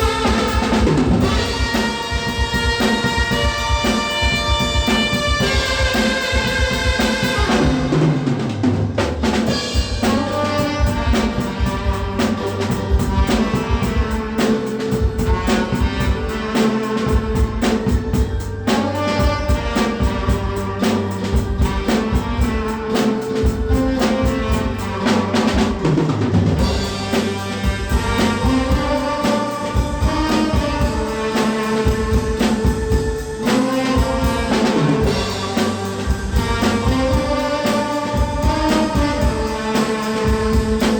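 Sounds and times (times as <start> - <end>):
tenor saxophone melody: 0.0 - 8.7, 9.3 - 40.9
drum kit groove: 0.0 - 40.9.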